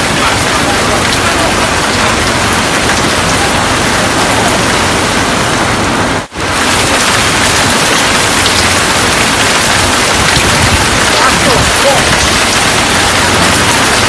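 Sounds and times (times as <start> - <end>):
heavy rain: 0.0 - 14.0
strong wind: 0.0 - 14.0.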